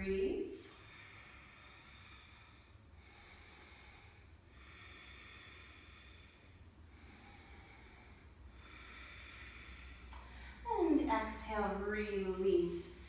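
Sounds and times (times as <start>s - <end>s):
woman breathing slowly: 0.0s - 11.0s.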